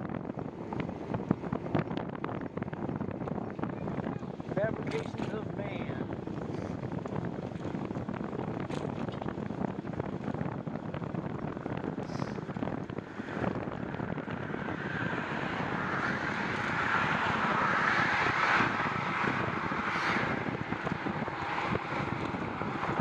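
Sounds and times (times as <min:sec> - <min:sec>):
bicycle road rush: 0:00.0 - 0:23.0
wind: 0:00.0 - 0:23.0.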